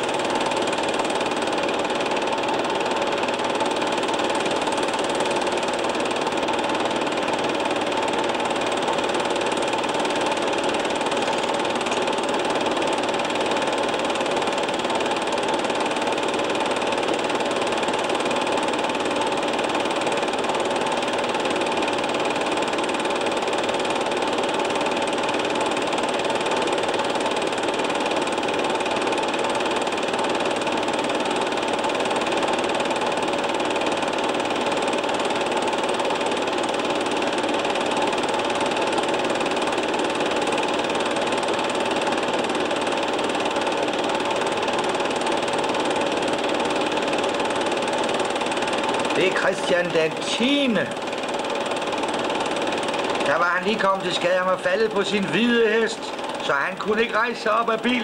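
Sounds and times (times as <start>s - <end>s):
film projector clatter and whir: 0.0s - 58.0s.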